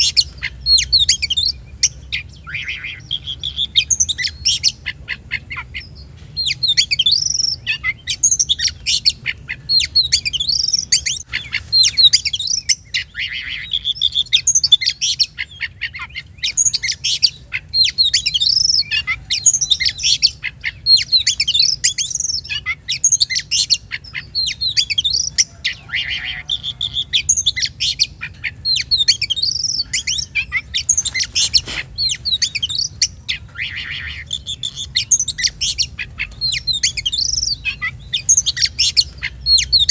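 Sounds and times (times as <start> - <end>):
songbird singing whistles and chirps: 0.0 - 39.9.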